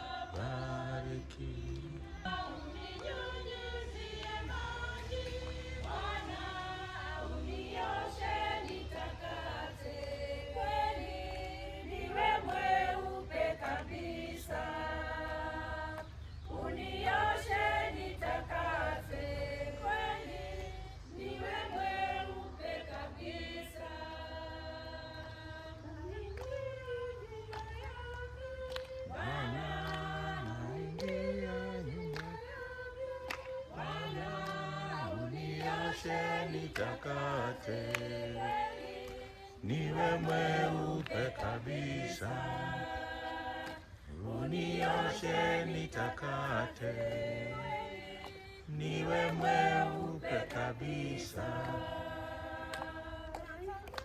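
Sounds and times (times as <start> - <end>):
group singing a hymn unaccompanied: 0.0 - 54.0.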